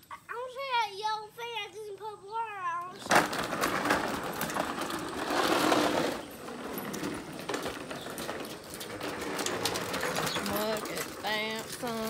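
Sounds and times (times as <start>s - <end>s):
toy truck wheels on concrete: 1.5s - 12.0s.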